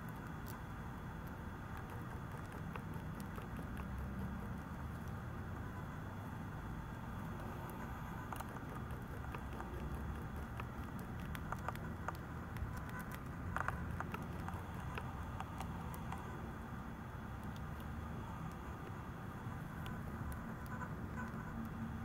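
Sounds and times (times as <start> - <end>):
mouse gnawing clicks and crunches: 0.0 - 5.3, 7.2 - 22.0
low steady hum: 0.0 - 22.0.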